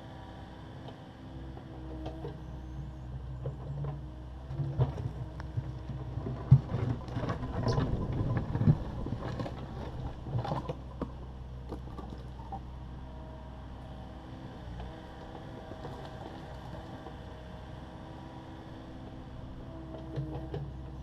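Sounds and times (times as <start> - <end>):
excavator diesel engine running: 0.2 - 21.0.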